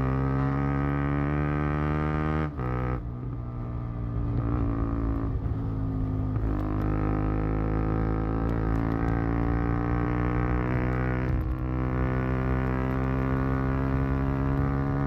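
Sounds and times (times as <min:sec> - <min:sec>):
motorcycle exhaust at speed: 0:00.0 - 0:15.0.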